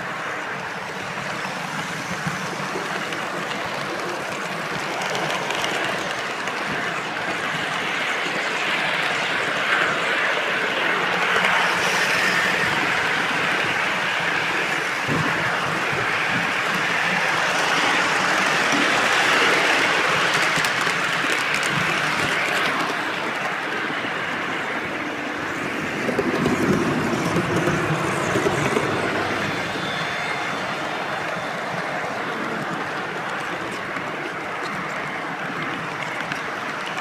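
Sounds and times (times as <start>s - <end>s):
train wheels rushing on rails: 0.0s - 37.0s.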